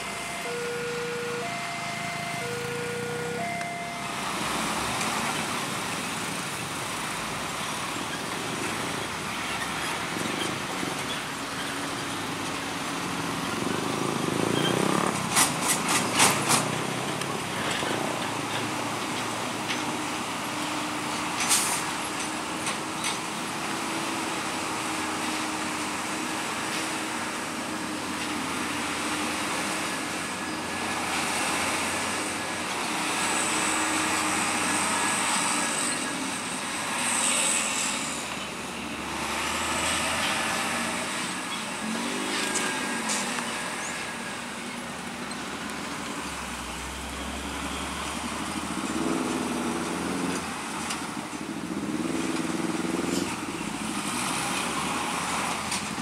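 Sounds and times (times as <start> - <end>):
diesel truck engines: 0.0 - 56.0
road noise: 0.0 - 56.0.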